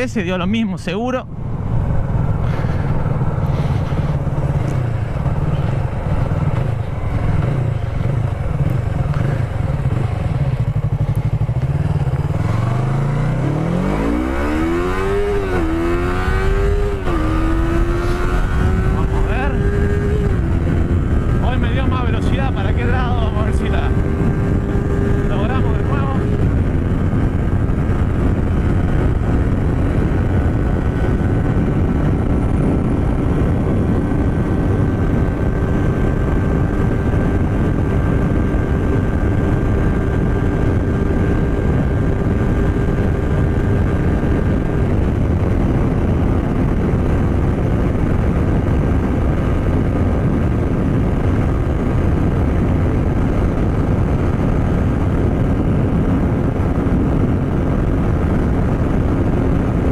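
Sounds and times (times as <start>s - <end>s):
wind rush on microphone: 0.0s - 59.9s
motorcycle engine at high revs: 1.3s - 59.9s.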